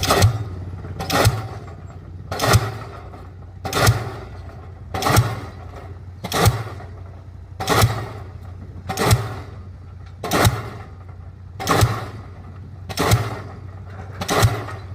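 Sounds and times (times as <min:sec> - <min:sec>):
pile hammer strikes: 0:00.0 - 0:07.0, 0:07.6 - 0:09.6, 0:10.2 - 0:11.0, 0:11.6 - 0:12.3, 0:12.9 - 0:14.9.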